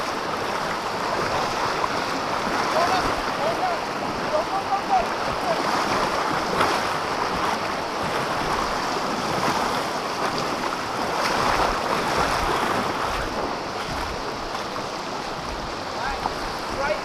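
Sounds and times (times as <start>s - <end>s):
splashing of person wading: 0.0s - 16.8s
creek rushing over rocks: 0.0s - 17.0s.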